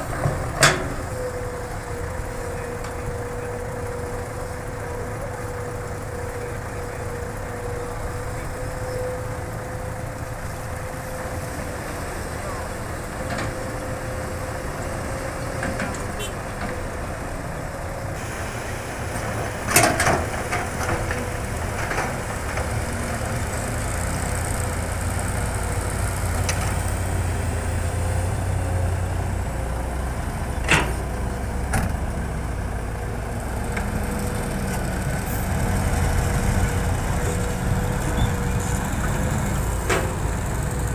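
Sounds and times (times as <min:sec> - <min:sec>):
diesel machinery running: 0:00.0 - 0:40.9.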